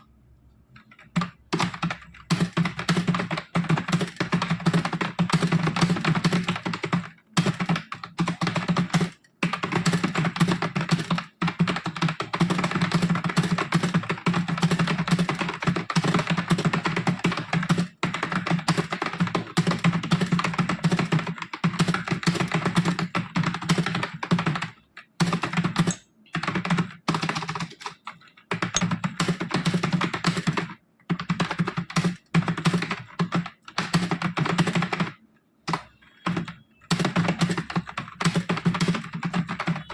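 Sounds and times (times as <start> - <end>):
fast typing on a keyboard: 0.8 - 39.9.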